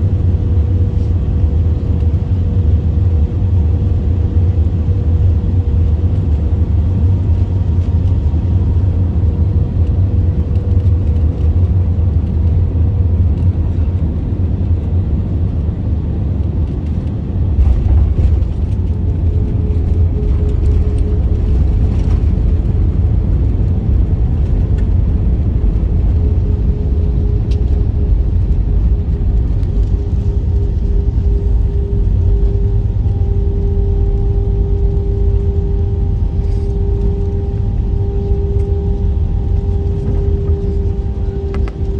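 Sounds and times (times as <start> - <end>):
jet engines and airflow rumble: 0.0 - 41.9.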